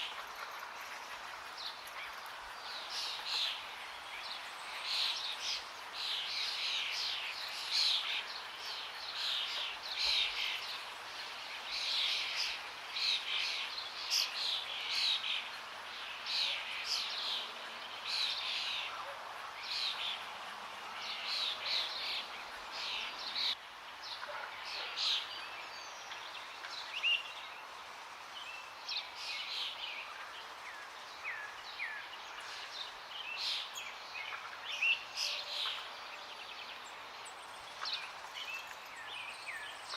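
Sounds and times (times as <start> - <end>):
birds calling and singing: 0.0 - 39.9.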